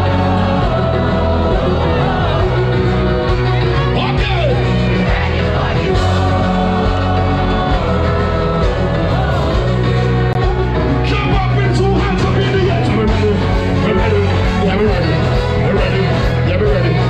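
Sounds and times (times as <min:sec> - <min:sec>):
soca music with heavy bass: 0:00.0 - 0:17.0.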